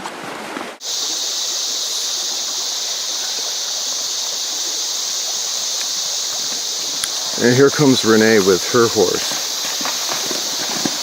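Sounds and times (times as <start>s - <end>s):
steady high-pitched hiss: 0.8s - 11.0s.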